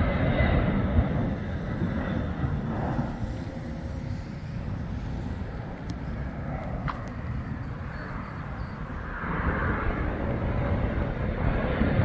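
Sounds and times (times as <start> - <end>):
fighter jet engine rushing: 0.0 - 12.0.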